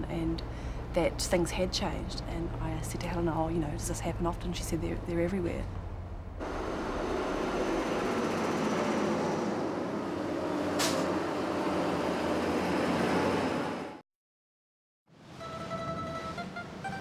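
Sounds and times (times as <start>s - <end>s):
heavy vehicle engines and road noise: 0.0s - 14.0s, 15.2s - 17.0s.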